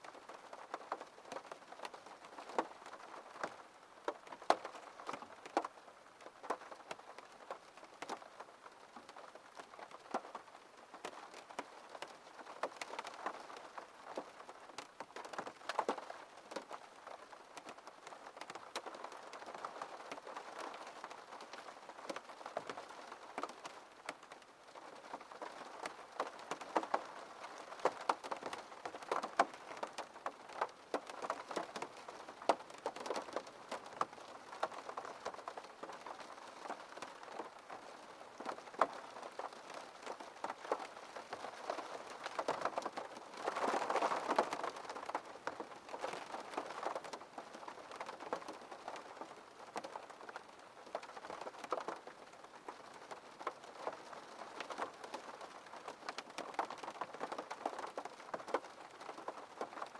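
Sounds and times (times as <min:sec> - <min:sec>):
rain pattering on a window: 0:00.0 - 0:59.9.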